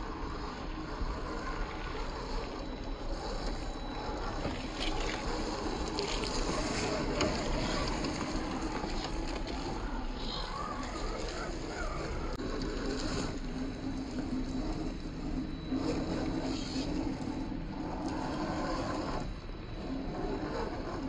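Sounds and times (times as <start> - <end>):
small electric motor and gears running: 0.0 - 21.0.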